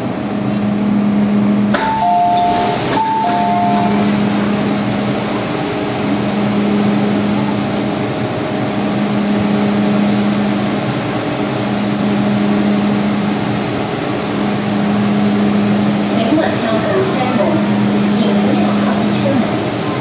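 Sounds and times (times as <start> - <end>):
electric train running: 0.0 - 20.0
low hum: 0.0 - 20.0.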